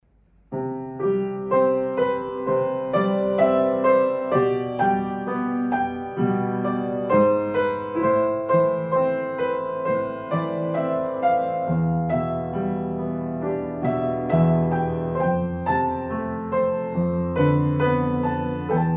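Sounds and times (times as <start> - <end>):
gentle piano music: 0.2 - 18.9.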